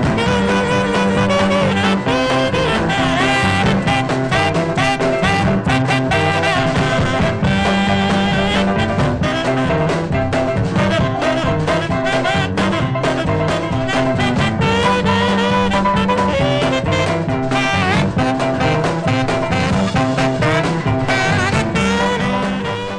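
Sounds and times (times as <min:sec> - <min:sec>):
swing music with brass: 0:00.0 - 0:22.9.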